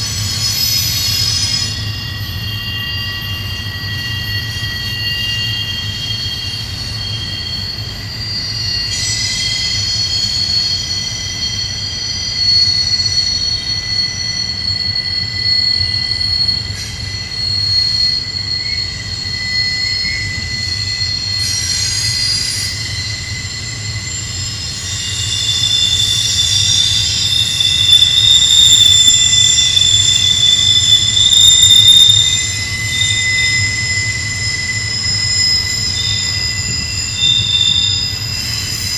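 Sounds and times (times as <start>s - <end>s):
low train rumble: 0.0s - 38.9s
train wheels squealing: 0.0s - 38.9s.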